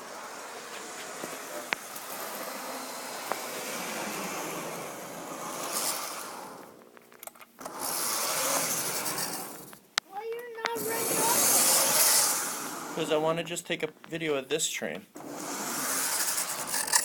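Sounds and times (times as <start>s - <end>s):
model locomotive whirring: 0.0s - 9.8s, 10.5s - 13.2s, 15.2s - 17.0s.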